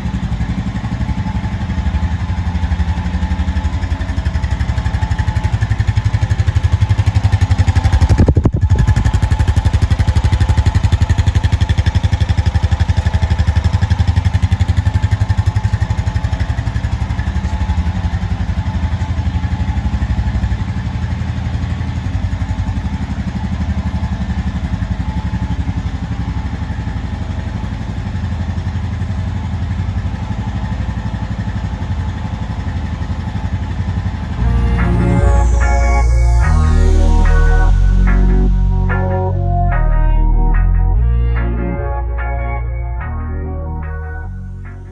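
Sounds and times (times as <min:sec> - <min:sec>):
atv engine running: 0:00.0 - 0:39.8.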